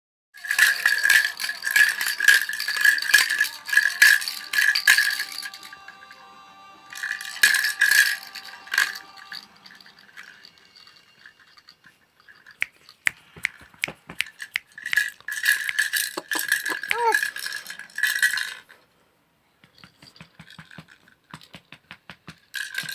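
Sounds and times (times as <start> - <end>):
rattle shaken rapidly: 0.4 - 6.1, 6.9 - 18.7, 19.8 - 22.9.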